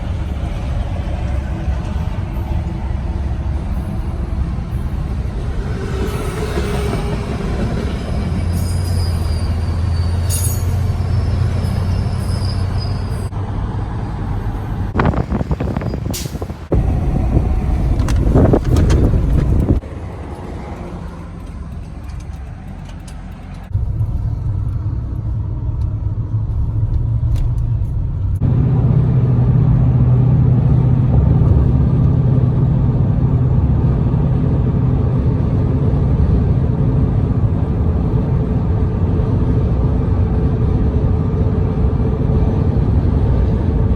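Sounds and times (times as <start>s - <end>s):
buses driving past: 0.0s - 43.9s.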